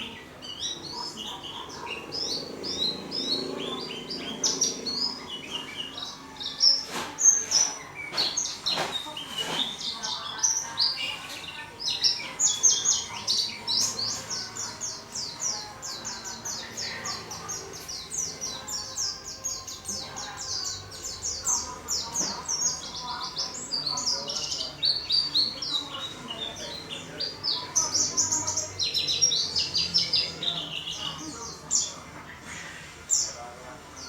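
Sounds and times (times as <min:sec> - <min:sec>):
caged bird singing fast song: 0:00.0 - 0:33.4.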